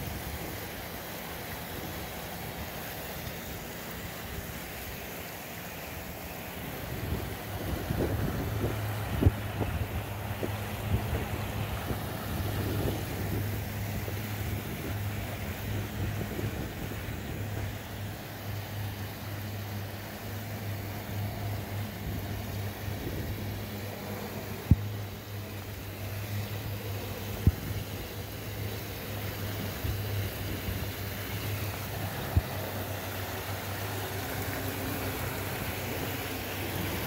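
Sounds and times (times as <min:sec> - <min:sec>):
even wash of noise: 0:00.0 - 0:37.0
steady low hum: 0:00.0 - 0:37.0.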